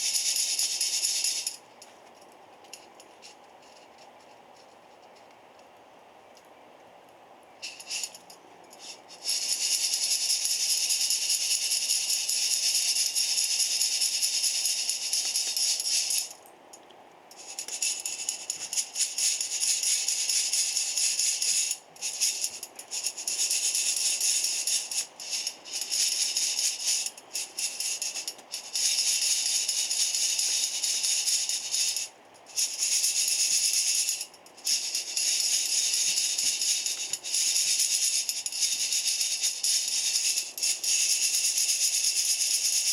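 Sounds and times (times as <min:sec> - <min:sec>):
coffee beans rattling in metal container: 0:00.0 - 0:01.6, 0:07.6 - 0:16.4, 0:17.3 - 0:42.9.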